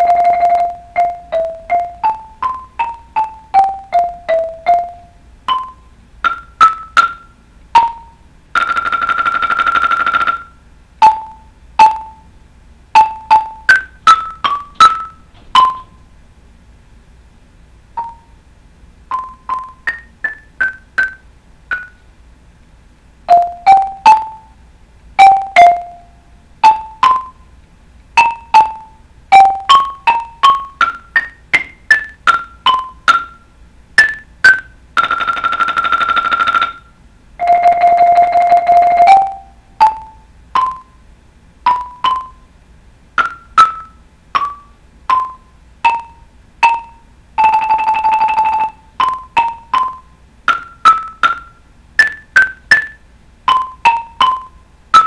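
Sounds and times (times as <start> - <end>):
mallet keyboard percussion notes: 0.0 - 12.3, 13.0 - 16.0, 19.1 - 22.0, 23.3 - 24.6, 25.2 - 27.4, 28.2 - 33.4, 34.0 - 41.0, 41.6 - 42.5, 43.2 - 55.0.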